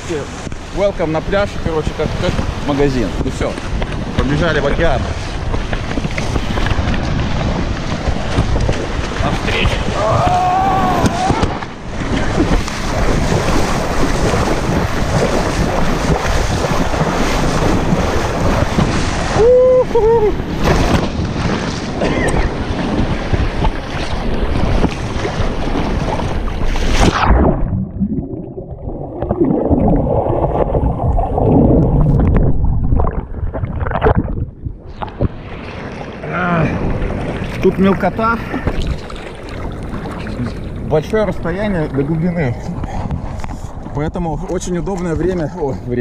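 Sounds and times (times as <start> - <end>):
muffled underwater sloshing: 0.0 - 46.0
surf splashing at waterline: 0.0 - 46.0
wind buffeting microphone: 0.0 - 46.0.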